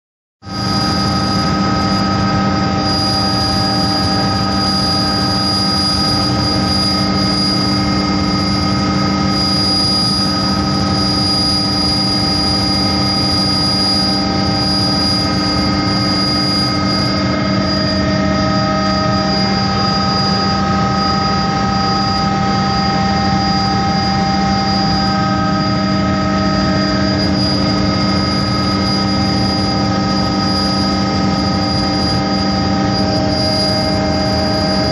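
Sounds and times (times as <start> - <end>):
helicopter engine and rotor noise: 0.4 - 34.9
high whining tone: 0.4 - 34.9.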